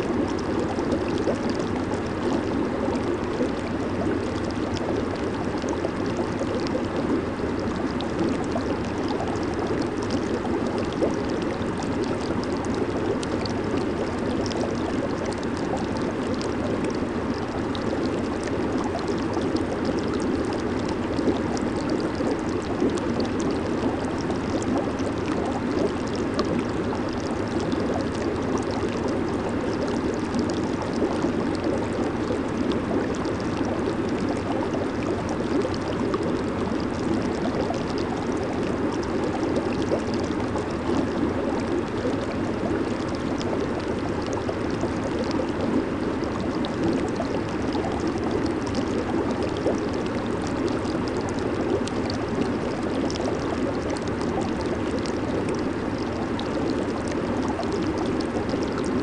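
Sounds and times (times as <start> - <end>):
bubbles popping at surface: 0.0 - 59.0
hot tub water bubbling: 0.0 - 59.0.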